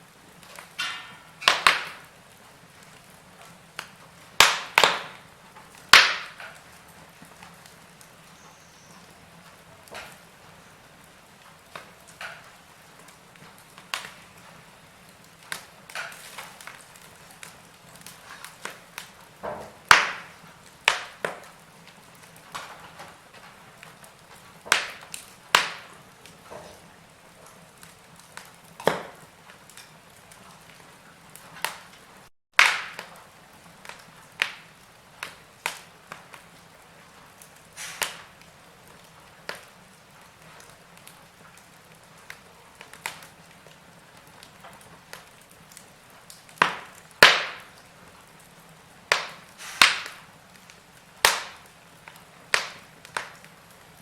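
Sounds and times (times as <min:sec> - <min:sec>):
faint steady hiss: 0:00.0 - 0:54.0
wood fire crackling and popping: 0:00.0 - 0:54.0.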